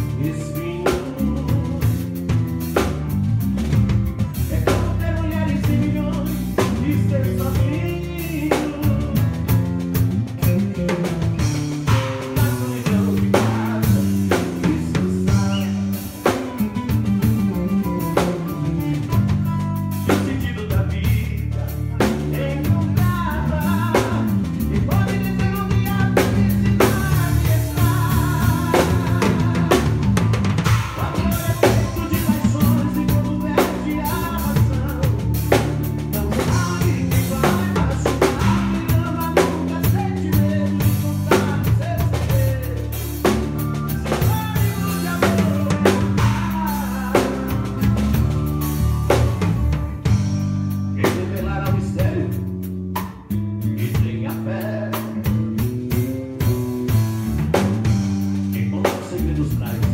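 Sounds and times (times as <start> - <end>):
drum kit beat: 0.0 - 59.9
electric bass line: 0.0 - 59.9
live band playing: 0.0 - 59.9.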